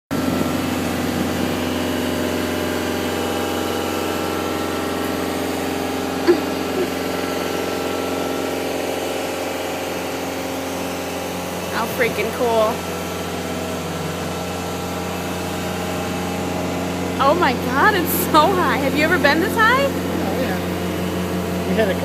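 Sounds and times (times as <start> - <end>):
lift engine droning: 0.1 - 22.0.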